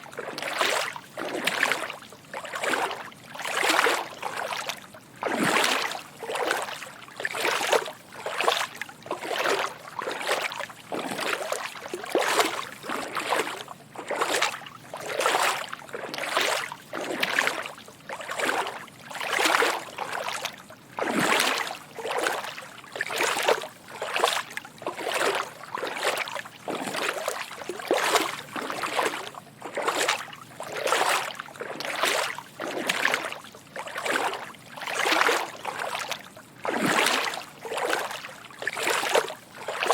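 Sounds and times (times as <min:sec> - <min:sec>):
footsteps wading through water: 0:00.0 - 0:39.9.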